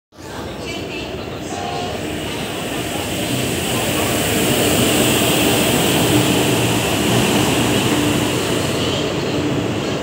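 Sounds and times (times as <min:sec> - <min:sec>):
train running on track: 0:00.1 - 0:10.0.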